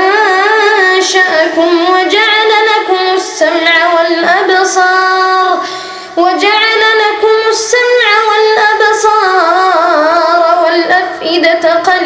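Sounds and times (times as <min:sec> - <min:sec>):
person chanting melodic recitation: 0:00.0 - 0:12.0.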